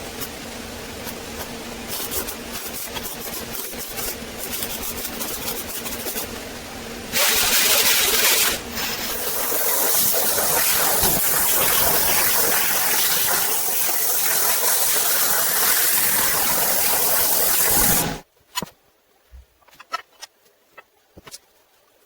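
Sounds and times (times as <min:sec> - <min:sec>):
loud steady hissing: 0:00.0 - 0:18.3.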